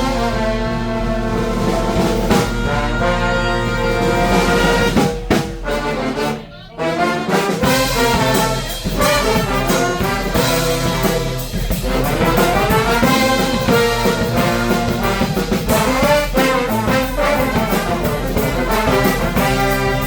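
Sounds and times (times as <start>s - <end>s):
brass band playing: 0.0s - 20.0s.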